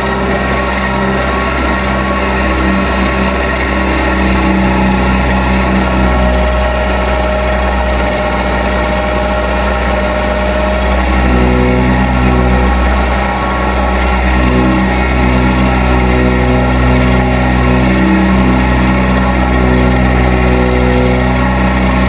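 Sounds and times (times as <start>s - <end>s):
backhoe engine running: 0.0s - 22.0s
thin steady whine: 0.0s - 22.0s.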